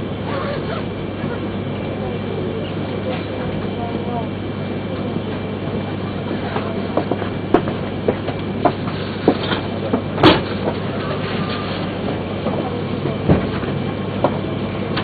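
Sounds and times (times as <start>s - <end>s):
train equipment low hum: 0.0s - 15.0s.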